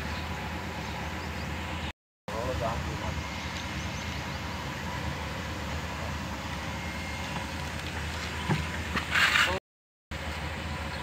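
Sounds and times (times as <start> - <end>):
excavator diesel engine drone: 0.0 - 11.0.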